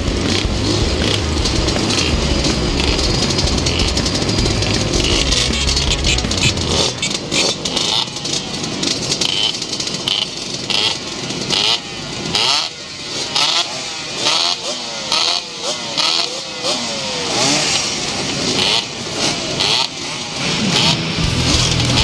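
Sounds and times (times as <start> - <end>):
two-stroke motorcycle engines revving: 0.0 - 22.0.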